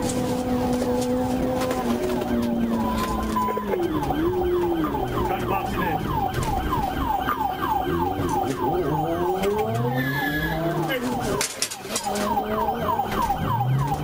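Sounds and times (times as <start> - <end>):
car engine running: 0.0 - 14.0
police siren yelping: 0.0 - 14.0.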